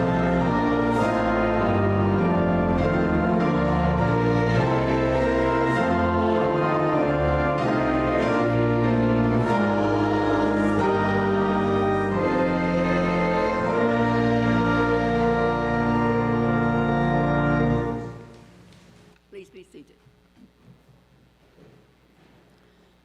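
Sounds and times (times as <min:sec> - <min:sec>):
organ playing sustained chords: 0:00.0 - 0:18.6.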